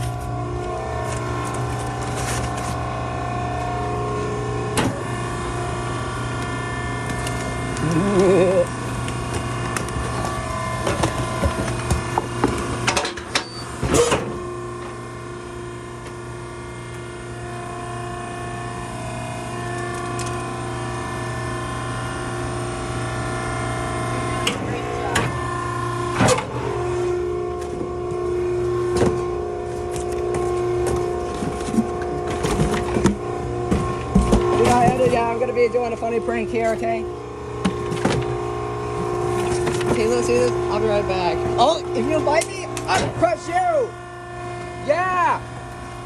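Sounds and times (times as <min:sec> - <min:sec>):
baler machine hum: 0:00.0 - 0:46.0.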